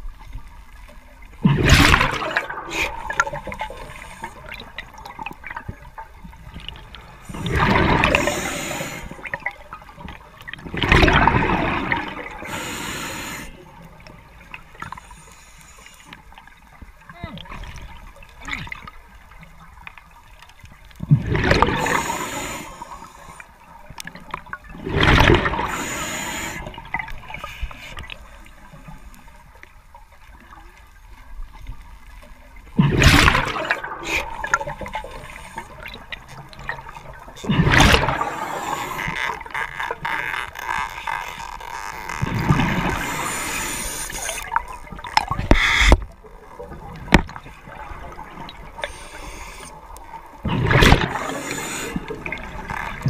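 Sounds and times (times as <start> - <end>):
exhaled air bubbling underwater: 0.0 - 53.0
soft watery hiss: 0.0 - 53.0.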